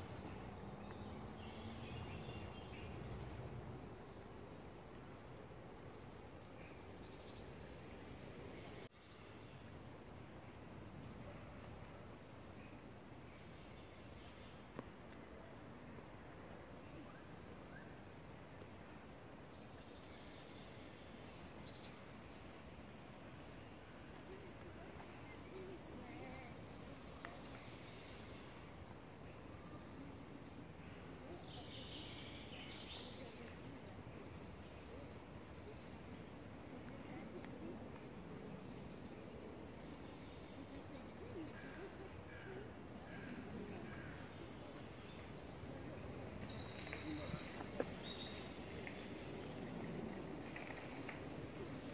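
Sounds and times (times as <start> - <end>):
faint outdoor hiss: 0.0 - 51.9.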